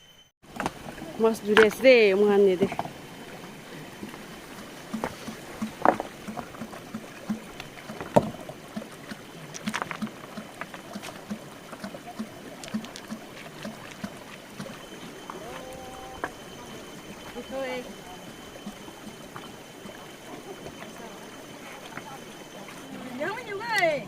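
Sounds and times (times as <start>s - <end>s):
flowing river water: 0.4s - 24.0s
water sloshing and splashing: 0.4s - 24.0s.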